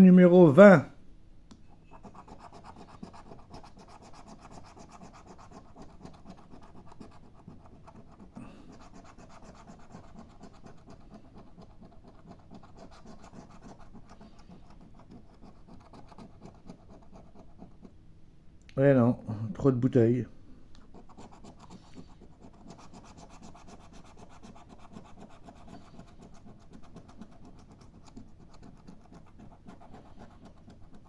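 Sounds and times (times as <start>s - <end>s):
lottery ticket being scratched: 1.9s - 17.8s, 20.9s - 31.0s.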